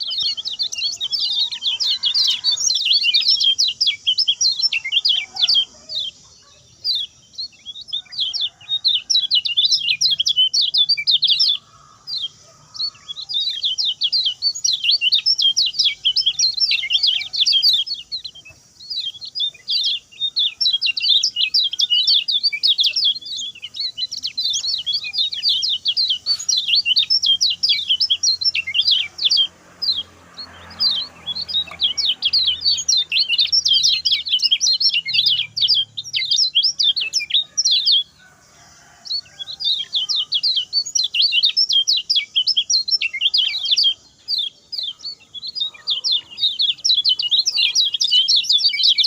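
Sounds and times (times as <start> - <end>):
bird singing rapid chirps: 0.0 - 49.0.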